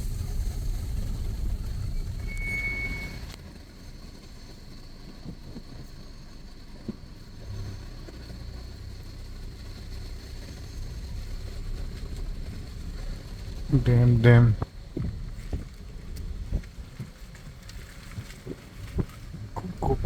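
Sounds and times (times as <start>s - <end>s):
vehicle rumbling off-road: 0.0s - 20.0s.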